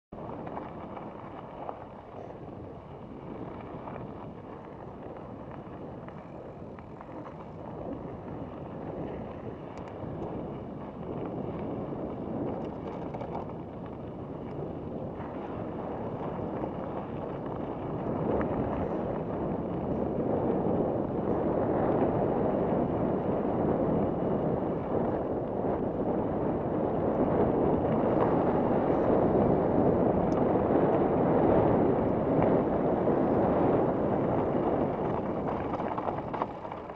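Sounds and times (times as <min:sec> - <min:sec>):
bike tyres rumbling on dirt trail: 0:00.1 - 0:36.9
wind rushing over microphone: 0:00.1 - 0:36.9.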